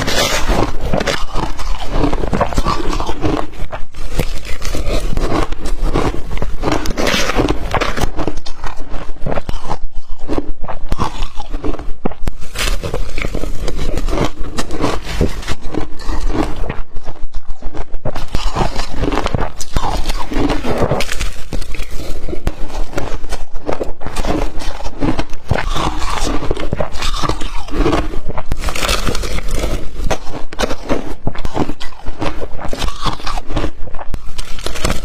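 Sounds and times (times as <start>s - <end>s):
chewing crushed ice: 0.0s - 35.0s.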